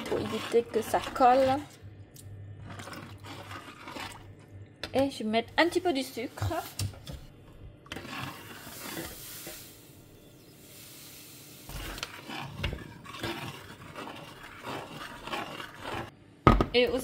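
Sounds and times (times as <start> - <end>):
spoon stirring in metal saucepan: 0.0 - 1.8, 2.6 - 7.3, 7.9 - 9.8, 10.6 - 16.2.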